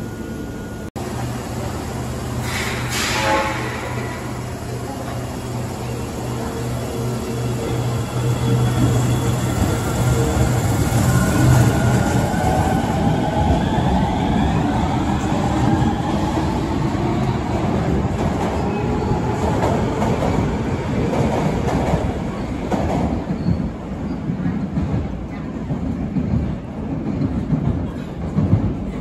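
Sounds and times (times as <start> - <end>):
subway train motors whining: 0.0 - 29.0.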